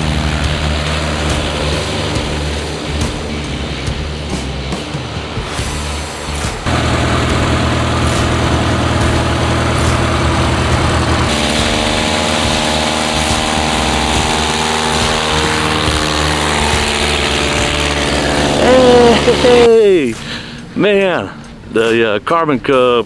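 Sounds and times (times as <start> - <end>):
plane engine and propeller: 0.0 - 21.7.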